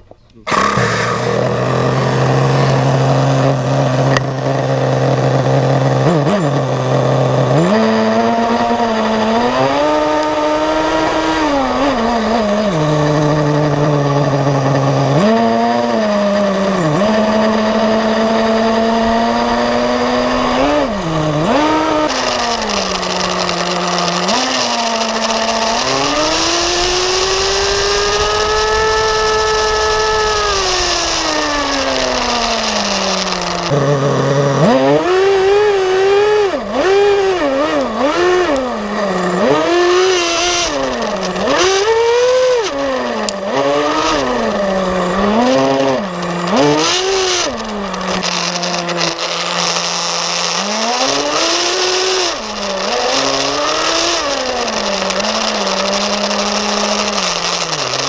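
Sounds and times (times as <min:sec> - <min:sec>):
small two-stroke engine revving: 0:00.0 - 0:58.0.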